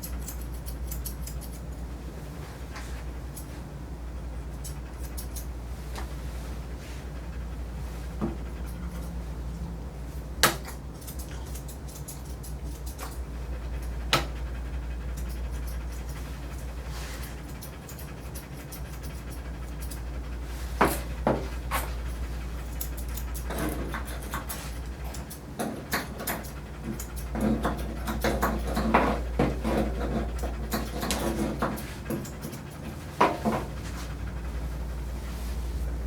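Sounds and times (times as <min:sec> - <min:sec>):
dog panting: 0:00.0 - 0:36.0
steady low hum: 0:00.0 - 0:36.0.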